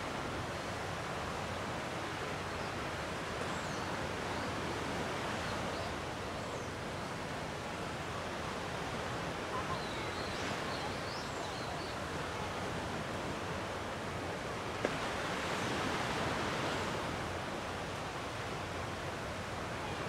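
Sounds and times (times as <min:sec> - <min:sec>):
sea waves washing ashore: 0:00.0 - 0:20.0.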